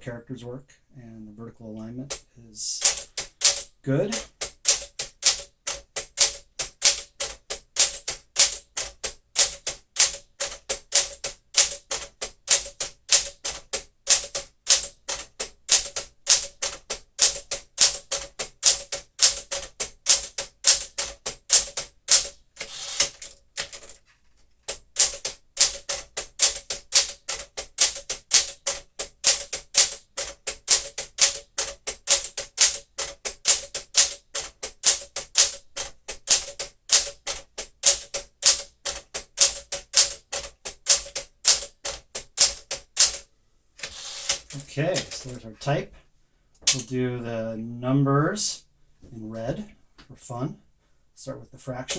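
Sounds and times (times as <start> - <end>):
typewriter keystroke clacks: 2.0 - 24.0, 24.6 - 45.5, 46.6 - 47.0
typewriter rasping: 2.0 - 45.7, 46.6 - 47.0.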